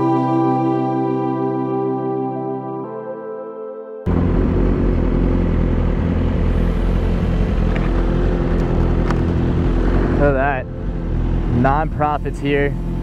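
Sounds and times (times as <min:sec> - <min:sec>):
ambient background music: 0:00.0 - 0:05.5, 0:06.4 - 0:13.0.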